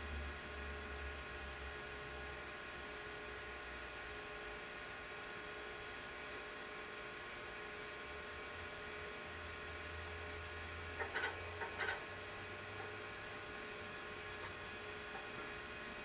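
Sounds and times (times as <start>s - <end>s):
computer hum with steady tones: 0.0s - 16.0s.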